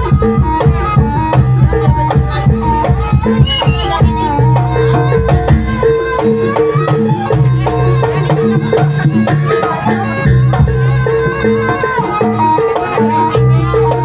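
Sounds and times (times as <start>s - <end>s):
folk melody with held notes: 0.0s - 14.0s
hand drums steady beat: 0.0s - 14.0s.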